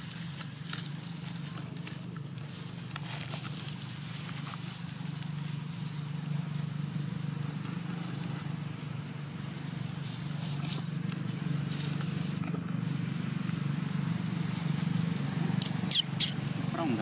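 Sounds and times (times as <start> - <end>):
footsteps on dry leaves: 0.0 - 17.0
steady low hum: 0.0 - 17.0.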